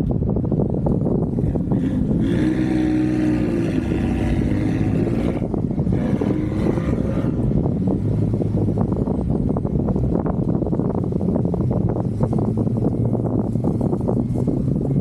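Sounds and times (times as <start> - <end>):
steady low rumble: 0.0 - 15.0
vehicle engine revving: 1.0 - 15.0.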